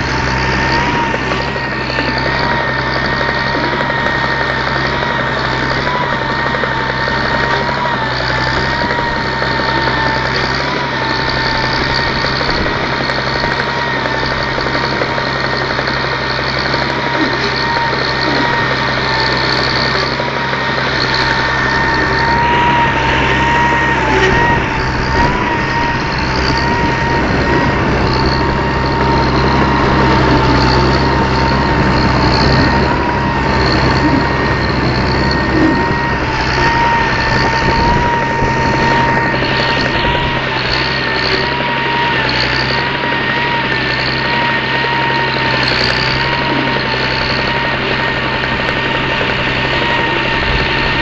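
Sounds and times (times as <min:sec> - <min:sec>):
high whine: 0:00.0 - 0:51.0
tractor diesel engine running: 0:00.0 - 0:51.0.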